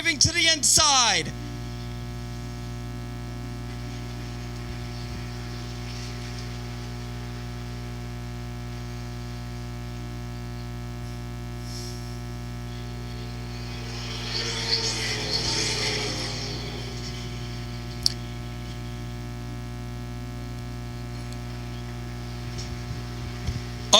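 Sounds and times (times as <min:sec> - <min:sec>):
electrical mains hum: 0:00.0 - 0:23.9.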